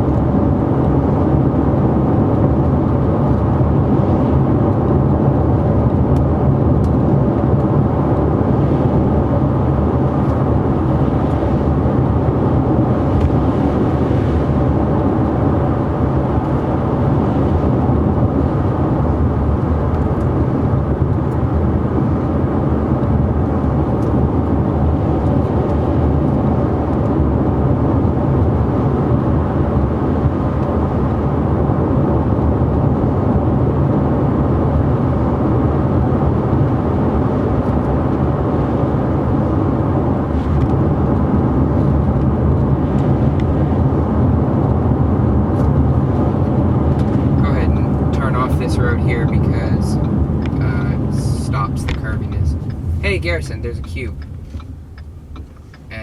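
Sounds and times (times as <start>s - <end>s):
engine hum: 0.0s - 56.0s
tyre and road noise: 0.0s - 56.0s.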